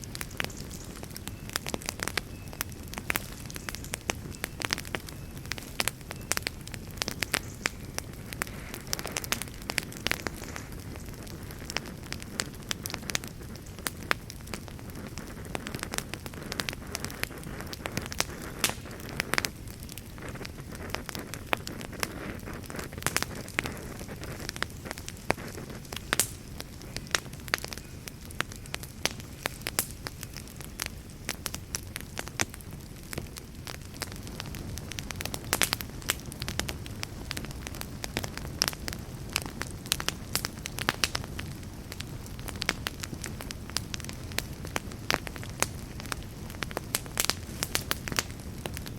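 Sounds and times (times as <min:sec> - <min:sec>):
burning wood crackling and popping: 0:00.0 - 0:48.9
low rumble of flames: 0:00.0 - 0:48.9.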